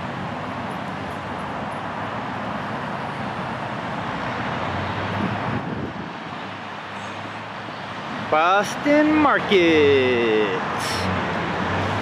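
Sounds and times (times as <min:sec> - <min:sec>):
vehicles passing and idling: 0:00.0 - 0:12.0.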